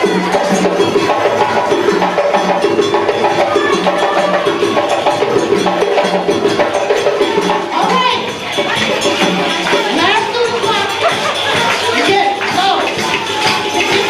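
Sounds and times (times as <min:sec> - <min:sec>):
live drum and percussion music: 0:00.0 - 0:14.0.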